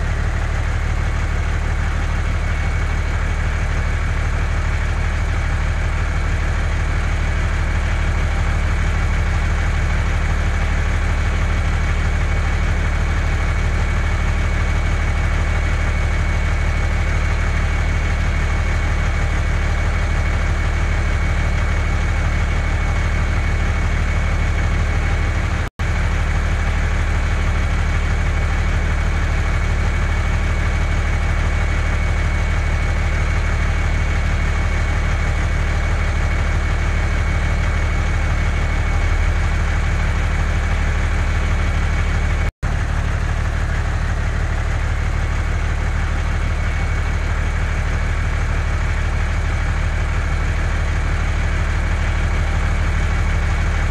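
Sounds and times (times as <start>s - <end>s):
heavy truck engine idling: 0.0s - 53.9s.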